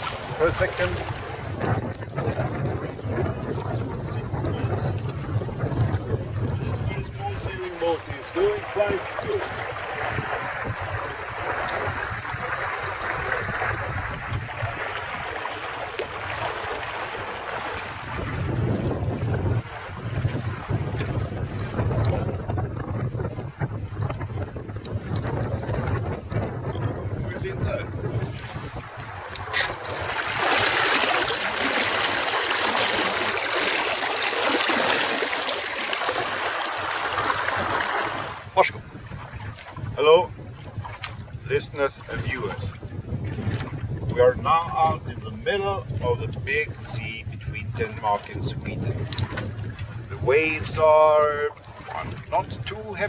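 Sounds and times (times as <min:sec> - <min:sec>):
water rushing along a hull: 0:00.0 - 0:53.0
wind buffeting the microphone: 0:00.0 - 0:53.0.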